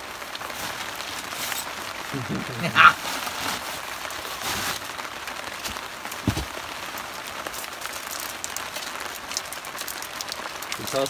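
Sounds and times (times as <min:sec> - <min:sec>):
rain on a plastic tarp: 0:00.0 - 0:11.0.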